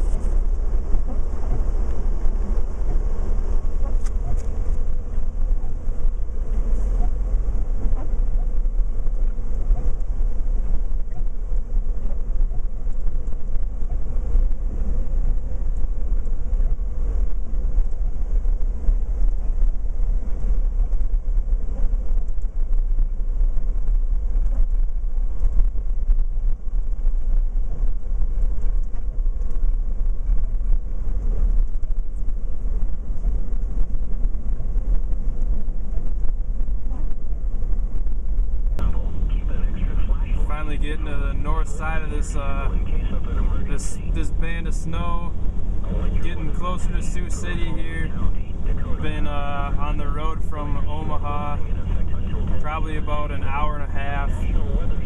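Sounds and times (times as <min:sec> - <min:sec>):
road and engine rumble: 0:00.0 - 0:55.0.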